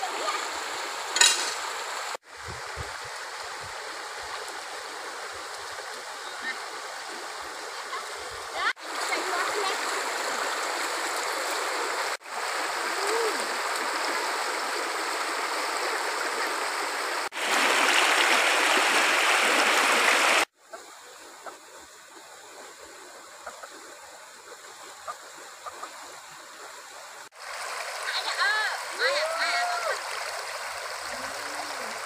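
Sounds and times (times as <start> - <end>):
stream rushing over stones: 0.0 - 32.0.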